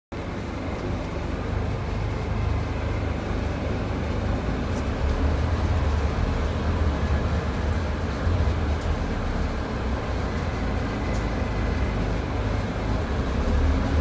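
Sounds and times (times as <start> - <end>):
bus engine drone: 0.1 - 14.0.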